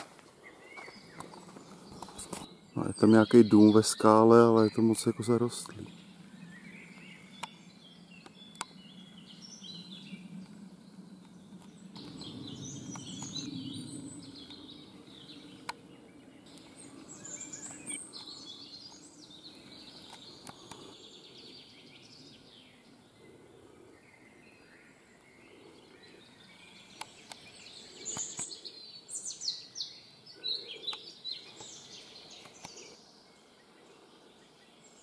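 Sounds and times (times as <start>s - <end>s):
birds singing and chirping: 0.0s - 35.0s.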